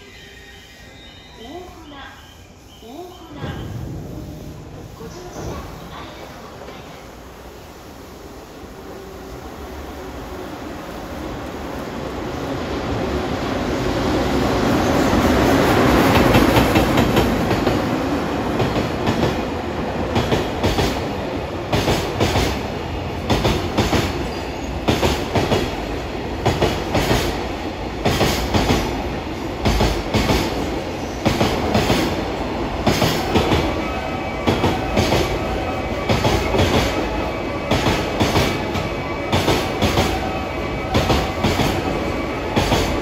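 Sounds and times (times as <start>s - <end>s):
electric locomotive passing: 0.0s - 43.0s.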